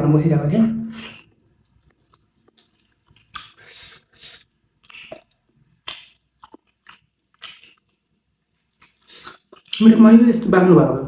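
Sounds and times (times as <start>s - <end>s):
person chewing wetly: 0.8s - 9.9s.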